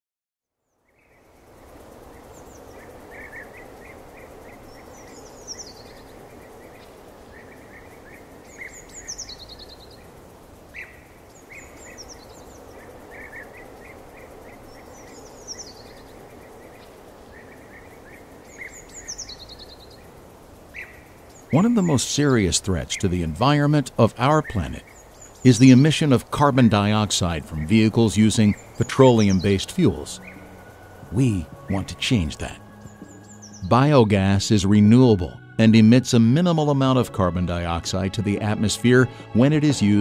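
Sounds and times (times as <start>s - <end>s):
birds singing: 0.6s - 40.0s
steady background hiss: 0.6s - 40.0s.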